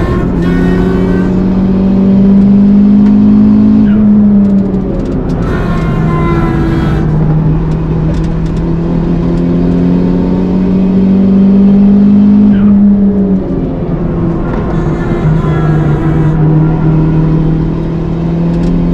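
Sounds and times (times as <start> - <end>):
car engine accelerating: 0.0 - 18.9.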